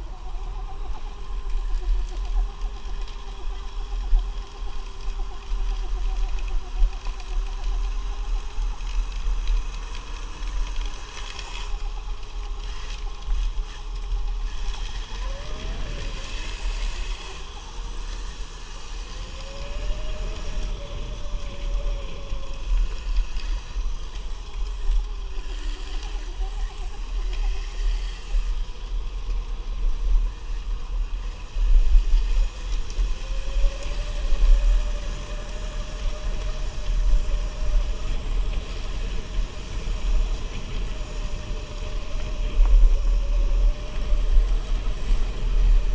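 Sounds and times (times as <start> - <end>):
electric motor whine: 0.0 - 45.9
wind rumble: 0.0 - 45.9.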